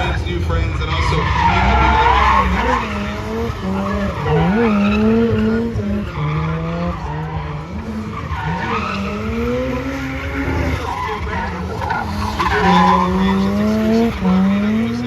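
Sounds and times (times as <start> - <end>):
car engine revving: 0.0 - 15.0
tyres skidding: 0.0 - 15.0.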